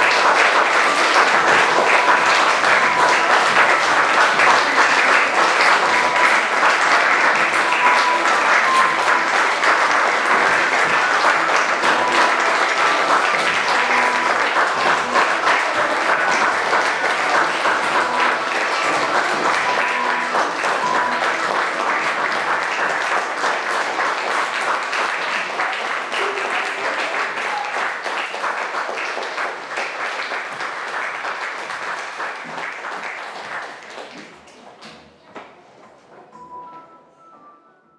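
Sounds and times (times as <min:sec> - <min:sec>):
audience applauding: 0:00.0 - 0:34.8.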